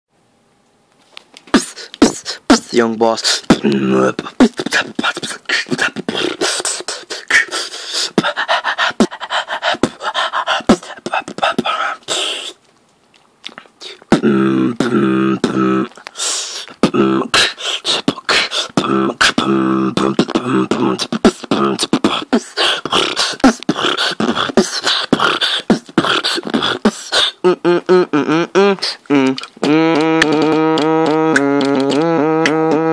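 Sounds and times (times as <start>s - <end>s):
beatboxing: 1.5s - 12.6s, 13.5s - 32.9s.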